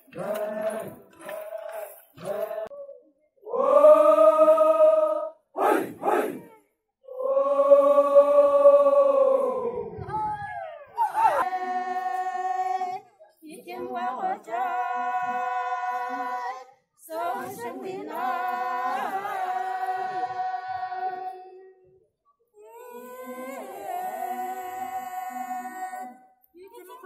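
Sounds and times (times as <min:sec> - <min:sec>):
women singing a folk song: 0:00.0 - 0:02.8, 0:03.5 - 0:05.4, 0:07.1 - 0:22.0, 0:22.6 - 0:27.0.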